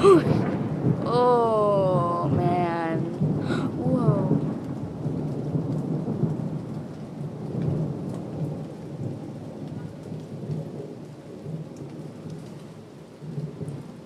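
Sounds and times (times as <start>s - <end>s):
rolling thunder: 0.0s - 12.6s.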